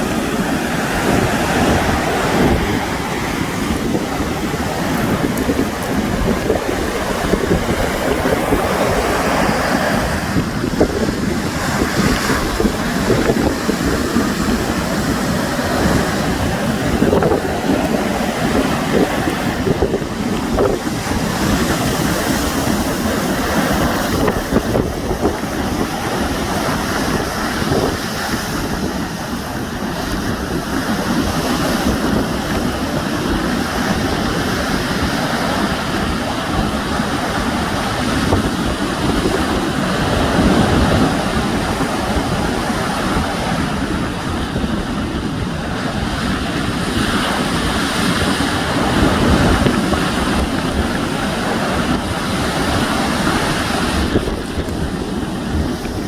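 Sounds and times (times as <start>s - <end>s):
sea waves washing on shore: 0.0s - 56.0s
wind buffeting microphone: 0.0s - 56.0s.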